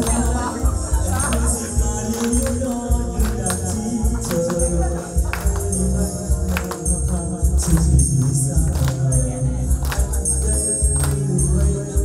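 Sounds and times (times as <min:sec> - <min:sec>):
bass line: 0:00.0 - 0:12.0
steady beat: 0:00.0 - 0:12.0
jingling tambourine-like percussion: 0:00.6 - 0:12.0.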